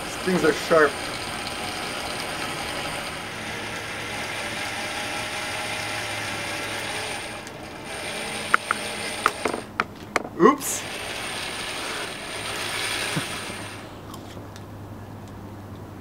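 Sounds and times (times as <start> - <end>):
electric drill boring through carrot: 0.0 - 9.9, 10.7 - 14.1.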